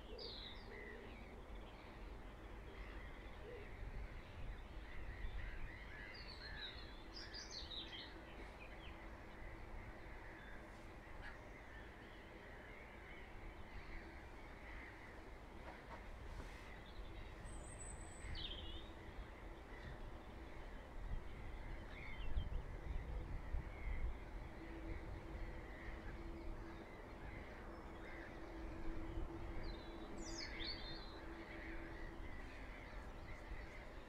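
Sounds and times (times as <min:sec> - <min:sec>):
bird calls and chirps: 0:00.0 - 0:34.0.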